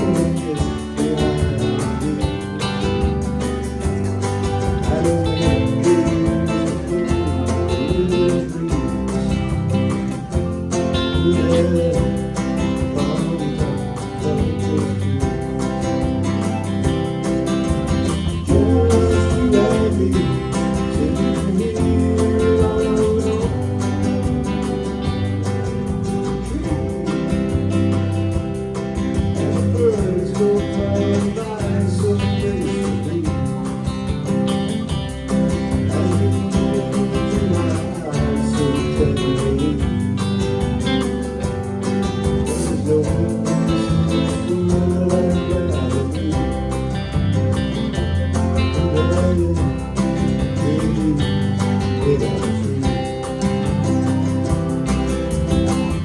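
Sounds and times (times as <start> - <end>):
lead guitar: 0.0 - 56.0
live band playing: 0.0 - 56.0.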